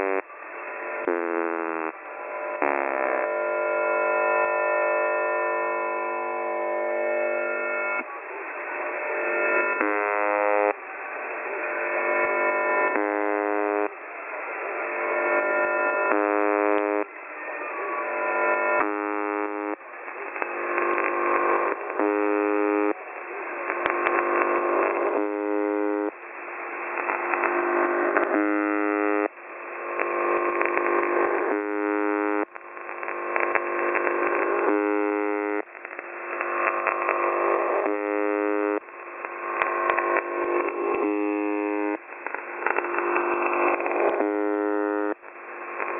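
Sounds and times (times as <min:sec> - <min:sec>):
harsh buzzing radio tone: 0:00.0 - 0:45.9.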